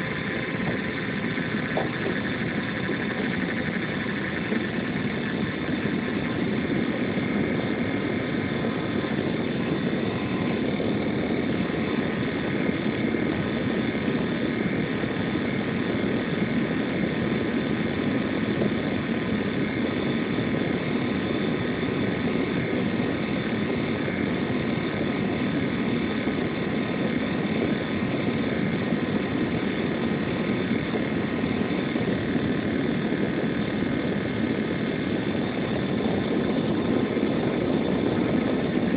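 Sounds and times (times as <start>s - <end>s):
laptop cooling fan whirring: 0.0s - 38.9s.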